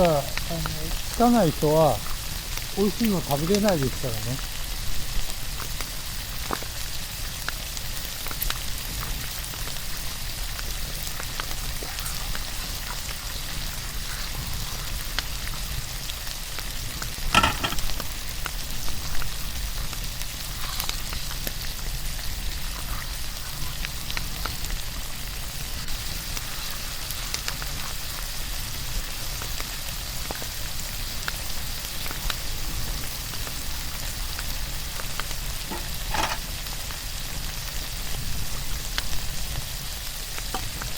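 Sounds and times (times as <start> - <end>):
campfire crackles: 0.0 - 40.9
steak sizzling in a pan: 0.0 - 40.9.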